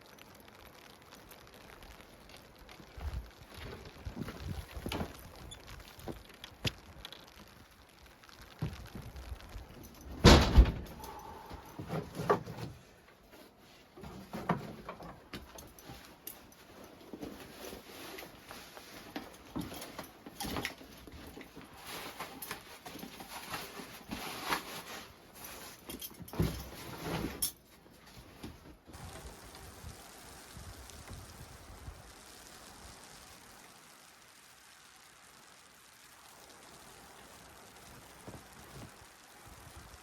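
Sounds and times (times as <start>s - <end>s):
rustling: 0.0s - 40.0s.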